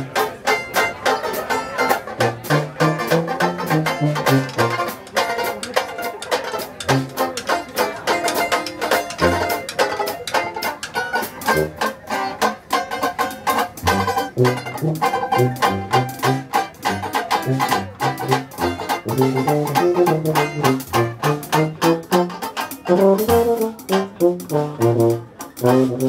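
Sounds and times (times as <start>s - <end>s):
banjo strumming chords: 0.0s - 26.0s
jazz band playing: 0.0s - 26.0s.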